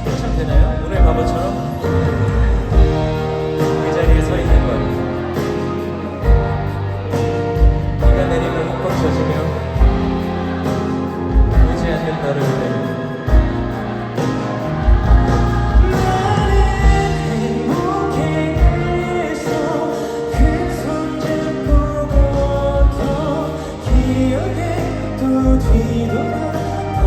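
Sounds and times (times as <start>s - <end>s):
band playing pop ballad: 0.0s - 27.0s
person singing: 0.0s - 27.0s.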